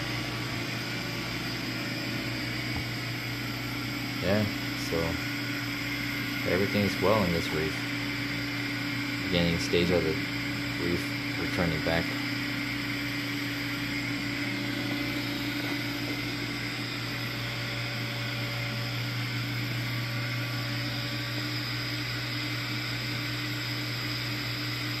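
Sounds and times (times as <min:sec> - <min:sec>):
aquarium pumps humming and hissing: 0:00.0 - 0:25.0.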